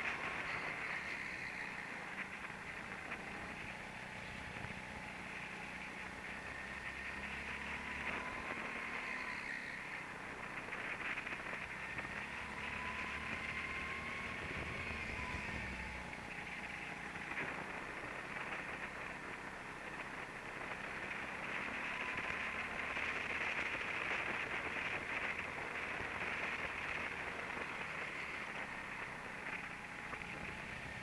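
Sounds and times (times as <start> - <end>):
go-kart engine drone and whine: 0.0 - 31.0.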